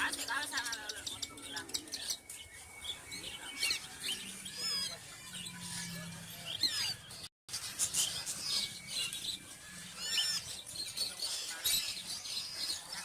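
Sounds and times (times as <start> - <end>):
bird chicks chirping: 0.0 - 13.0.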